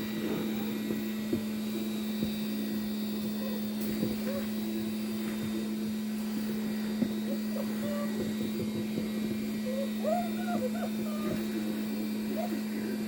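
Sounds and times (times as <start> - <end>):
puppy whining: 0.0 - 1.5, 3.0 - 13.0
blow dryer running: 0.0 - 13.0.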